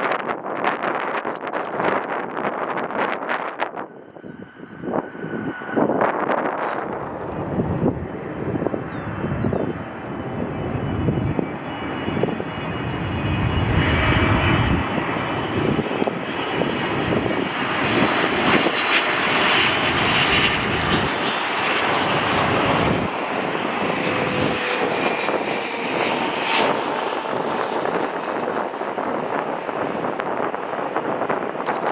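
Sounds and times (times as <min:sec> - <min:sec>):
jet engines flying past: 0:00.0 - 0:31.9
wind buffeting microphone: 0:00.0 - 0:31.9.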